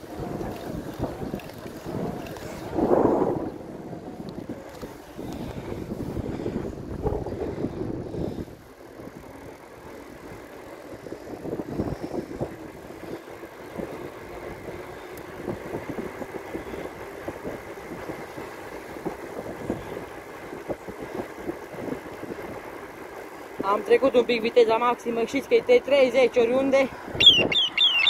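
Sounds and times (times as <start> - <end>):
wind on microphone: 0.0 - 24.5, 26.6 - 28.0
bike tyre noise on asphalt: 0.0 - 28.0.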